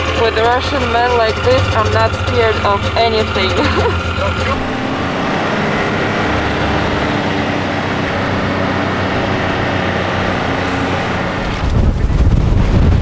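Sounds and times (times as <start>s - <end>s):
choppy low engine rumble: 0.0s - 13.0s
snowmobile engine running: 0.0s - 13.0s.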